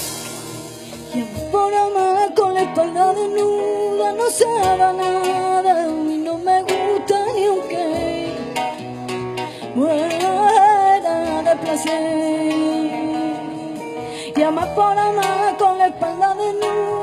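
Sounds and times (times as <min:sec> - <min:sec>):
acoustic guitar strumming: 0:00.0 - 0:17.0
woman singing: 0:01.0 - 0:17.0.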